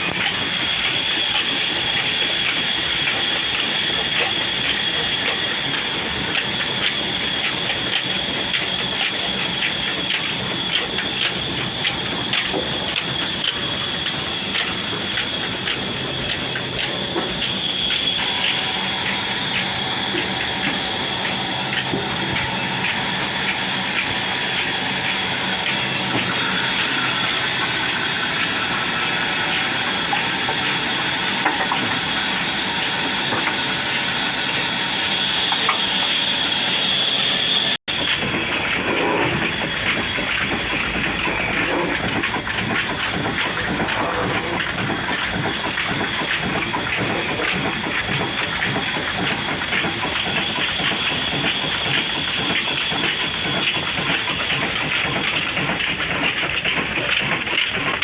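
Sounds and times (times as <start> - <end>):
gushing water: 0.0 - 58.0.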